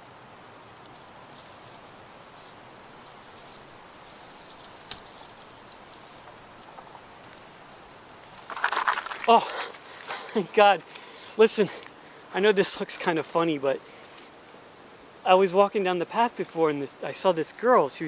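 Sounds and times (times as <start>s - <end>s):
rustle: 0.0s - 18.0s
steady hiss: 0.0s - 18.0s.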